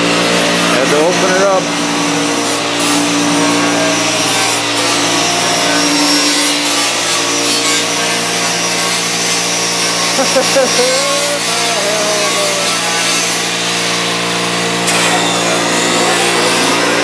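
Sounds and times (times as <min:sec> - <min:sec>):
motor hum: 0:00.0 - 0:17.0
power tool cutting sheet metal: 0:00.0 - 0:17.0.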